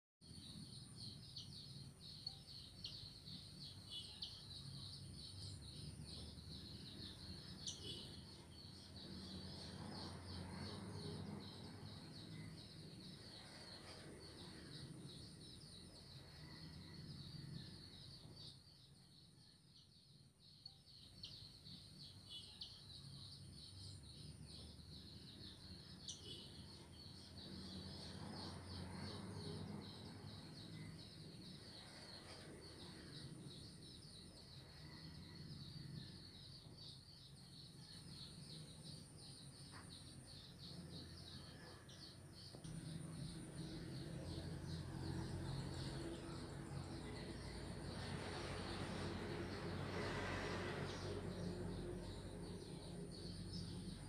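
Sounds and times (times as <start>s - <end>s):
bird chirps: 0.2s - 54.0s
pulsing insect drone: 0.3s - 54.0s
thin continuous whine: 0.3s - 54.0s.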